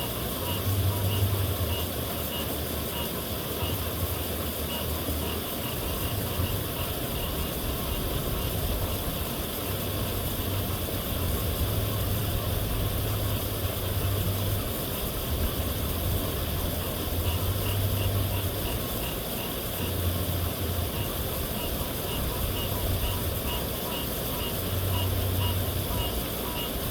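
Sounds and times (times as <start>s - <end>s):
water pouring over a dam: 0.0s - 26.9s.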